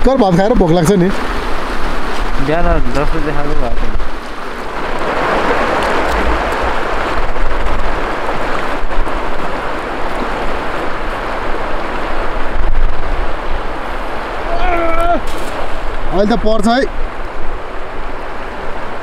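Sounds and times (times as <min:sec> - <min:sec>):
river rushing: 0:00.0 - 0:19.0
wind buffeting microphone: 0:00.0 - 0:19.0.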